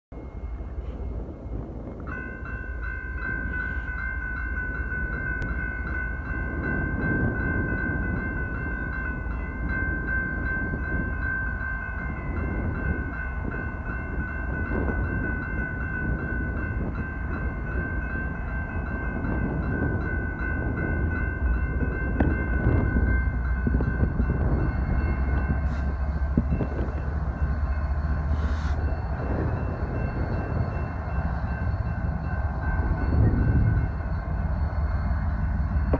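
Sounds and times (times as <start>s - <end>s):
low wind rumble: 0.1s - 35.9s
railroad crossing bell ringing: 0.1s - 35.9s
diesel freight locomotive rumble: 0.2s - 35.9s.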